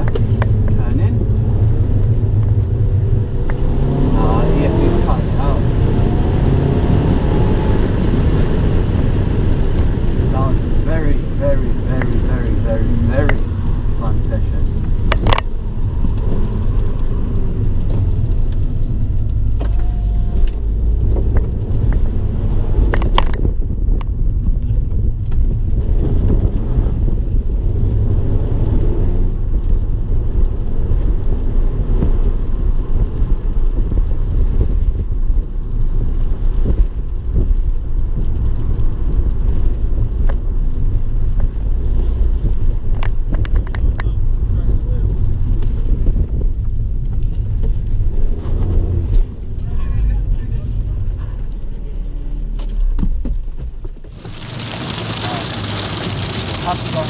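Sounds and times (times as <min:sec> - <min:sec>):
car engine rumbling: 0:00.0 - 0:57.0
road noise: 0:00.0 - 0:57.0.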